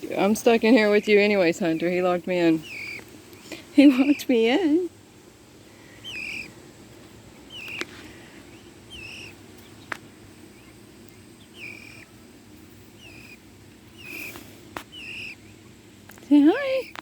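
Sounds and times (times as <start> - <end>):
peachick calling: 0.1 - 4.9, 5.8 - 6.6, 7.4 - 17.0.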